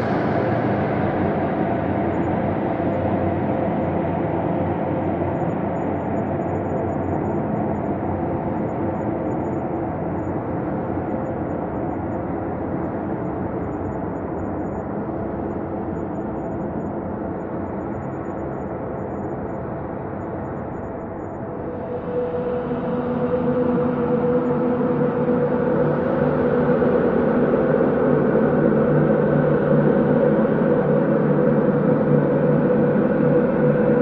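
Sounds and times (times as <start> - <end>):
low rumbling ambient drone: 0.0 - 34.0.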